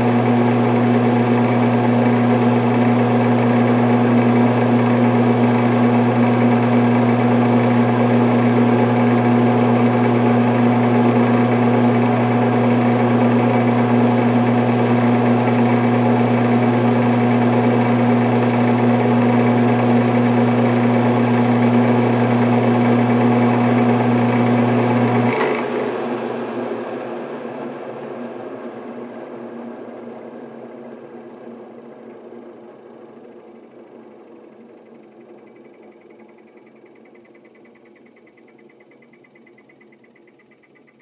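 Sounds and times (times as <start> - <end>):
ventilation fan running: 0.0 - 37.4.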